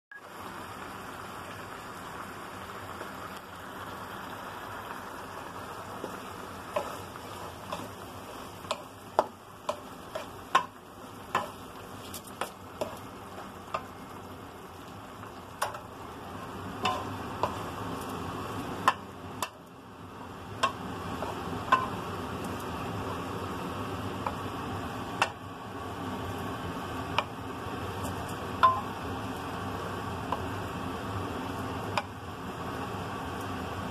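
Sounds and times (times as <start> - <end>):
food sizzling in a frying pan: 0.1 - 33.9.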